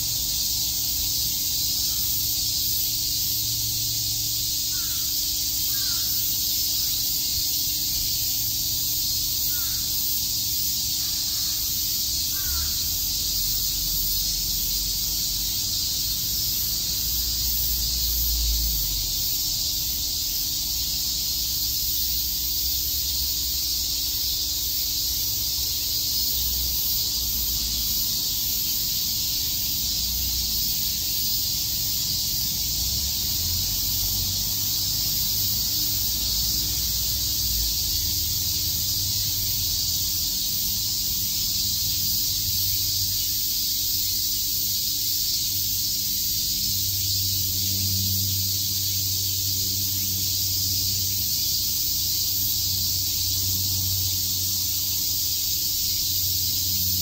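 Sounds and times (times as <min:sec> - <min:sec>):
cicadas droning: 0:00.0 - 0:57.0.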